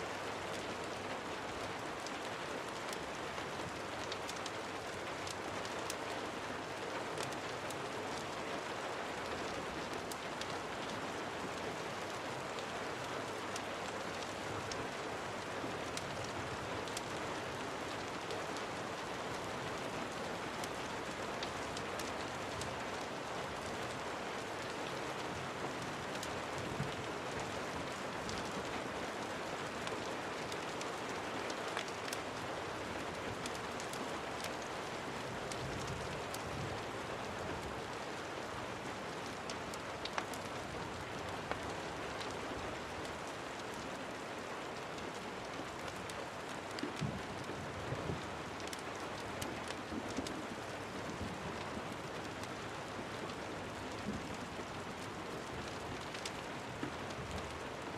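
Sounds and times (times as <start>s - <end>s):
steady rain: 0.0s - 57.9s
wood fire crackling and popping: 0.5s - 8.4s, 9.2s - 11.0s, 11.9s - 19.6s, 20.2s - 36.4s, 39.1s - 47.6s, 48.5s - 57.6s.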